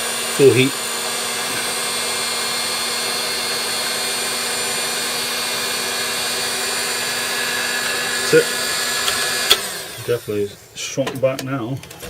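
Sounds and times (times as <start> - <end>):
heat gun blowing: 0.0 - 10.8.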